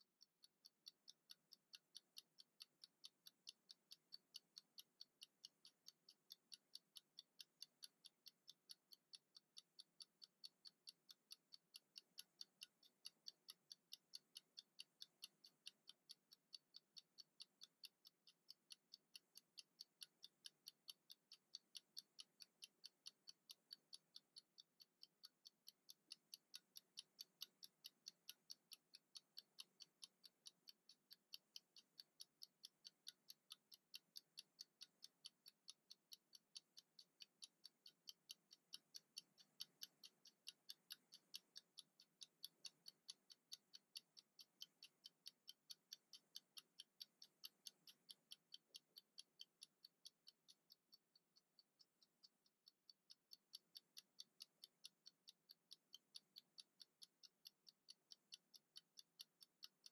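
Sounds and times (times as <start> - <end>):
mechanical kitchen timer ticking: 0.0 - 59.9.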